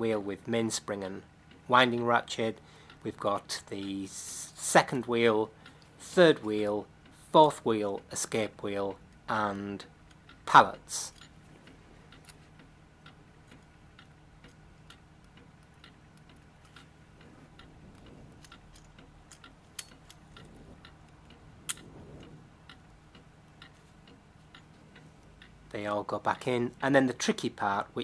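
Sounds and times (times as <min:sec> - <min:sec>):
faint low hum: 0:00.0 - 0:28.0
tweezers tapping clock wheels: 0:00.7 - 0:28.0.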